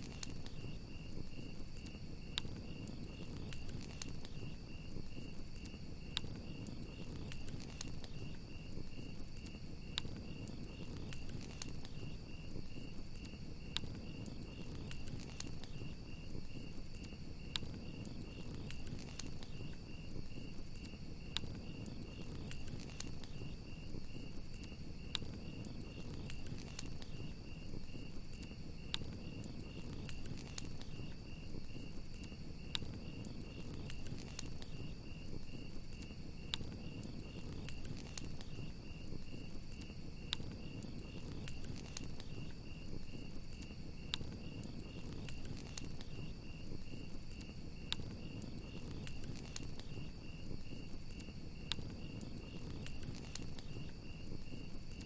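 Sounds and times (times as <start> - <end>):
campfire crackling and popping: 0.0 - 55.0
crickets chirping: 0.0 - 55.0.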